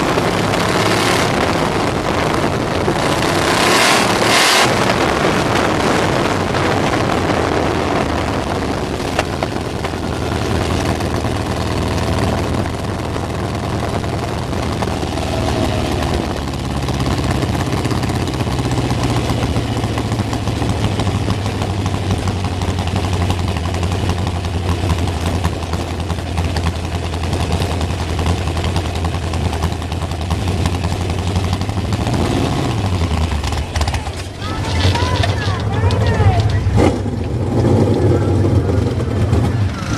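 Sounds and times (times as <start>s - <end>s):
race car engine at low revs: 0.0s - 39.9s.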